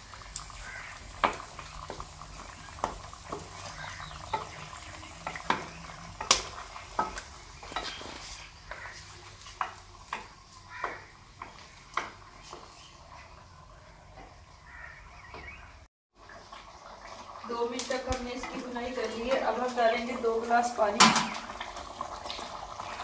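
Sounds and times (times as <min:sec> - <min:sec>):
faint sizzle: 0:00.0 - 0:15.0, 0:16.2 - 0:23.0.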